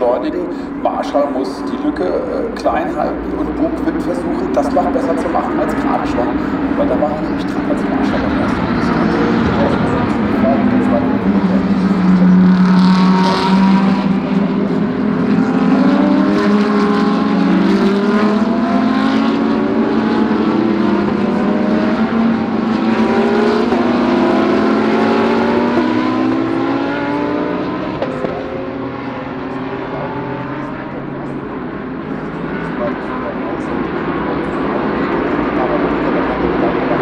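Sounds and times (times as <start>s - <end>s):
race car engines accelerating: 0.0s - 37.0s.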